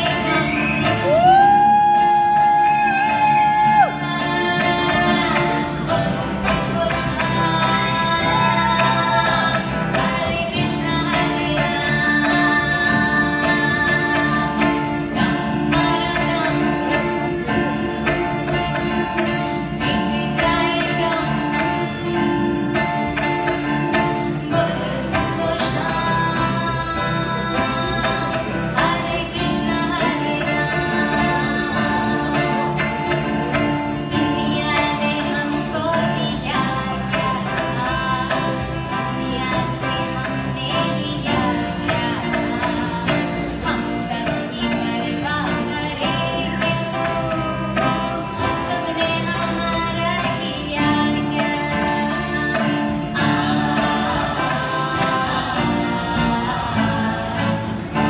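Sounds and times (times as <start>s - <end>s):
live band with guitars: 0.0s - 58.0s
person singing: 0.0s - 58.0s.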